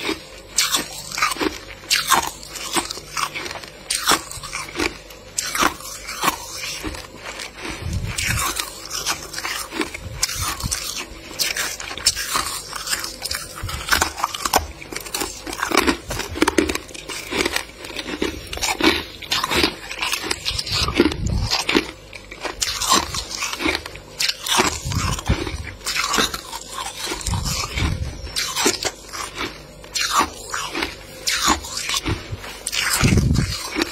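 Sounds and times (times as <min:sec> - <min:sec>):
freezer frost being scraped: 0:00.0 - 0:33.9.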